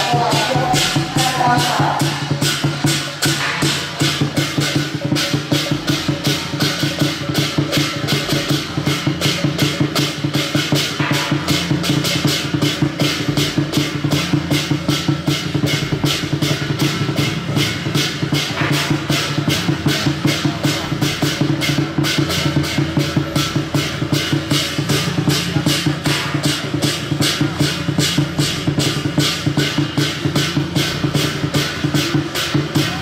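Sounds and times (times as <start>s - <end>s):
percussion fast beat: 0.0s - 33.0s.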